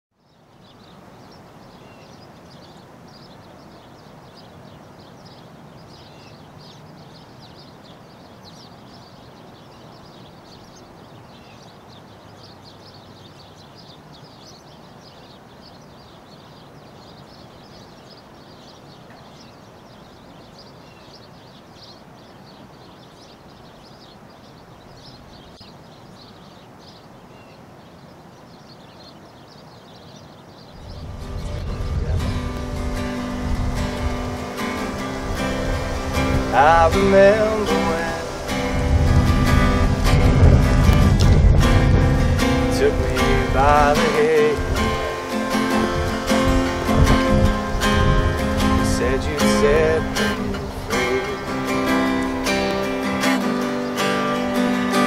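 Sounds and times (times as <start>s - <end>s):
small birds chirping: 0.1s - 55.0s
steady background hiss: 0.2s - 55.0s.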